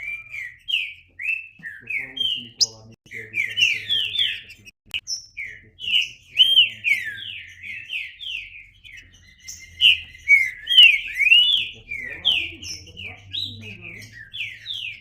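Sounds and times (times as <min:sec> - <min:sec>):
bird singing whistled notes: 0:00.0 - 0:15.0.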